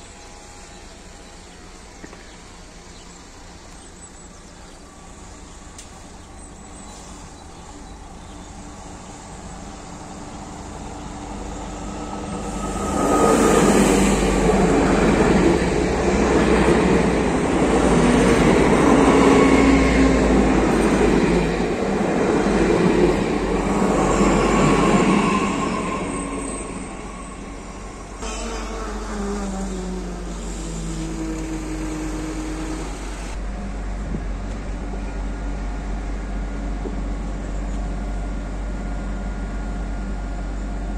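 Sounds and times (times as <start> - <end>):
diesel railcar passing: 0.0 - 40.9
railcar engine idling: 0.0 - 40.9.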